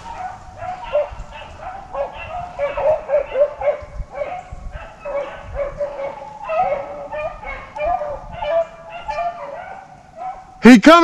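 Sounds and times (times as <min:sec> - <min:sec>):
hounds baying: 0:00.0 - 0:10.6.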